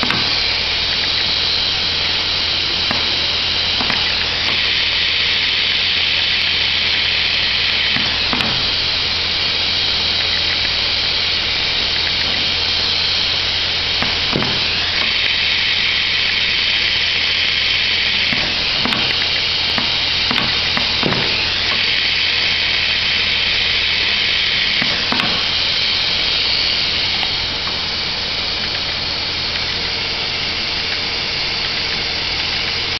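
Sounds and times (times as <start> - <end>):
hot air welding machine hissing: 0.0 - 32.9.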